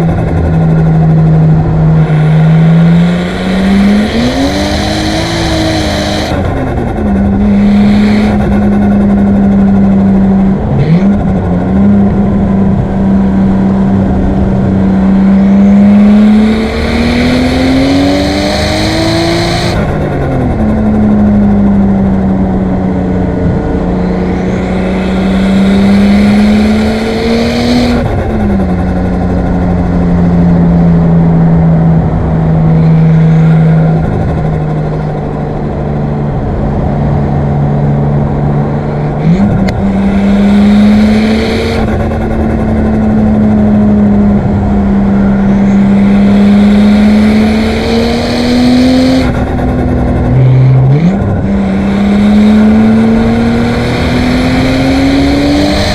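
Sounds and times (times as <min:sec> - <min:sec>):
car engine accelerating through gears: 0:00.0 - 0:55.9.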